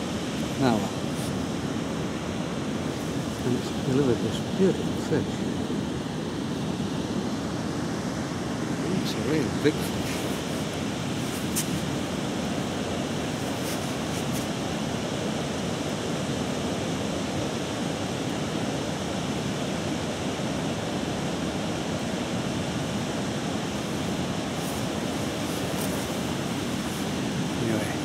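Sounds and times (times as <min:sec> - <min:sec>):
fast-flowing river water: 0:00.0 - 0:28.0.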